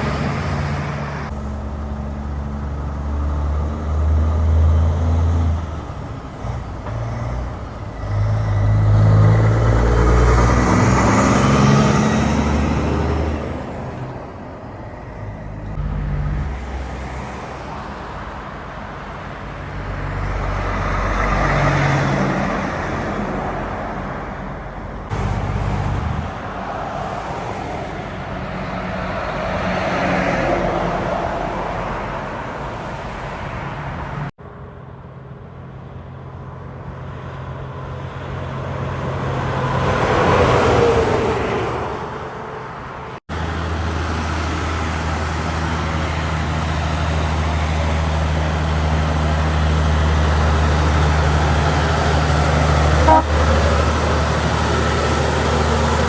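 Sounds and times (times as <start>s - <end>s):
heavy trucks driving past: 0.0s - 56.0s.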